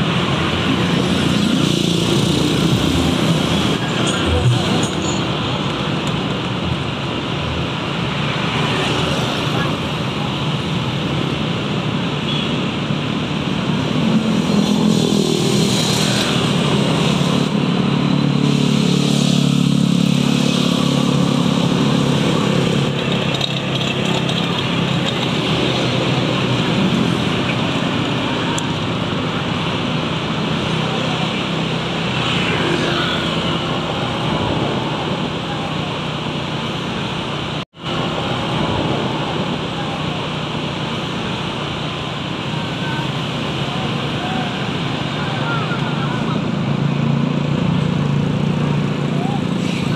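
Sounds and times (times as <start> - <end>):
loud engine drone: 0.0 - 49.9
road traffic from moving vehicle: 0.0 - 49.9.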